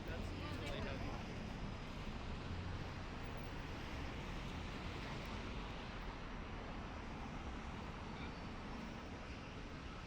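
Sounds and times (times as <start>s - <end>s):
traffic noise: 0.0s - 10.0s.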